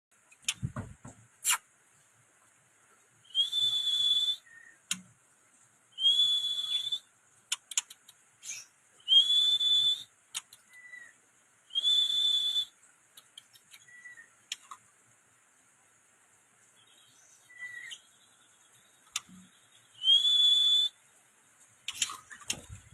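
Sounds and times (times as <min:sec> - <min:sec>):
soft chirps and clicks: 0:00.2 - 0:00.8, 0:02.4 - 0:09.2, 0:09.8 - 0:11.2, 0:11.8 - 0:22.9.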